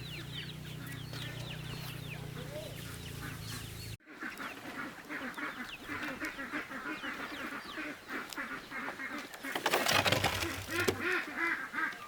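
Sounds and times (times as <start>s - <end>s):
ducks quacking: 0.0s - 12.0s
small birds chirping: 0.0s - 12.0s.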